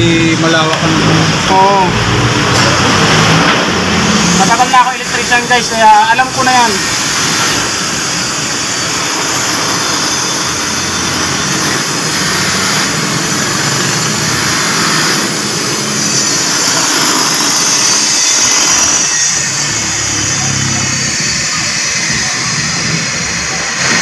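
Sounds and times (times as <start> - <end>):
bench grinder motor running: 1.0 - 24.0.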